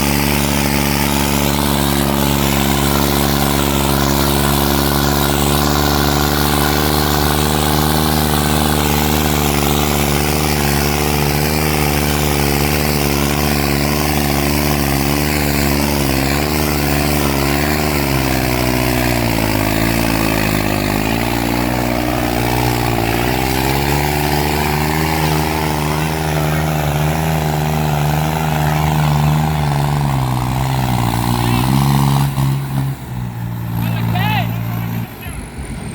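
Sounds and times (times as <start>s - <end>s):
tractor diesel engine working hard: 0.0s - 35.9s.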